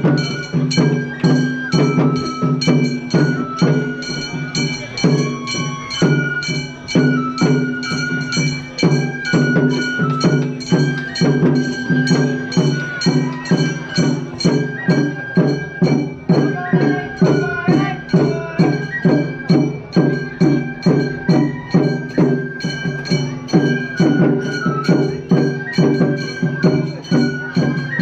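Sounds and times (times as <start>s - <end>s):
bamboo flute: 0.0s - 28.0s.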